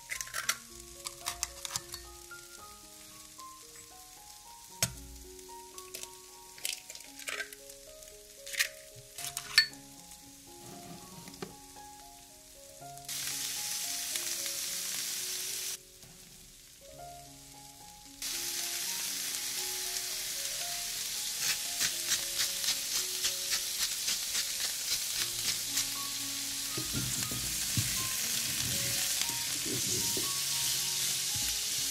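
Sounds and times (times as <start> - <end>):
soft background music: 0.0 - 31.9
vegetables sizzling in a frying pan: 0.0 - 31.9.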